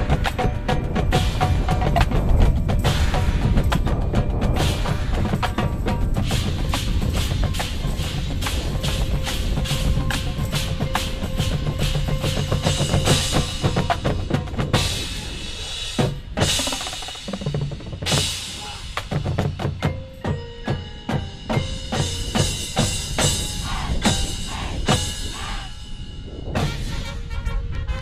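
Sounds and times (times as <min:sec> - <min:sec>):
snare and bass drums: 0:00.0 - 0:25.6
drum roll: 0:00.0 - 0:28.0.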